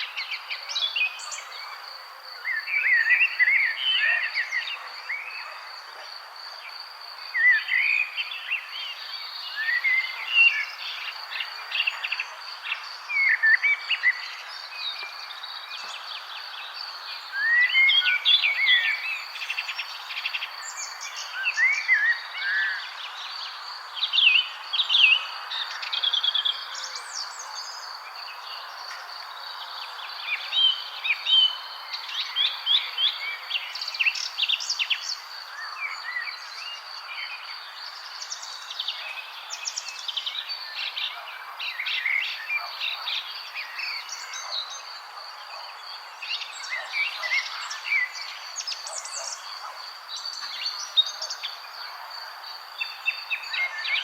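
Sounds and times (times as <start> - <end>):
soft outdoor hiss: 0.0 - 54.0
wild birds chirping: 0.0 - 54.0.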